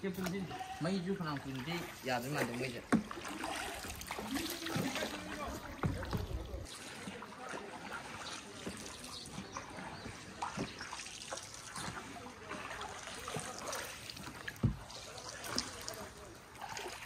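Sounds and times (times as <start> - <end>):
water lapping around boat: 0.0 - 17.0
small splashes and drips: 1.2 - 17.0.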